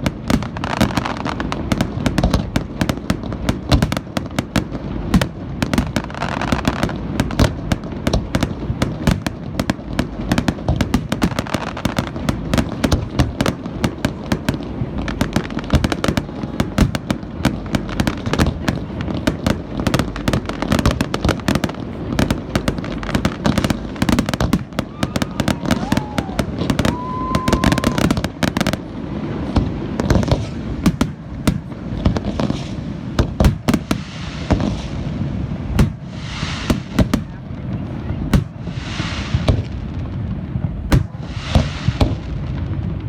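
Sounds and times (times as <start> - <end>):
fireworks bangs and cracks: 0.0 - 43.0.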